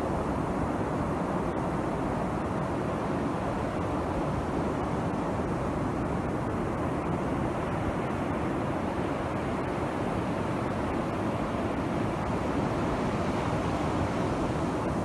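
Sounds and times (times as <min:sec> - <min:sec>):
sea surf washing on beach: 0:00.0 - 0:15.0
wind on microphone: 0:00.0 - 0:15.0.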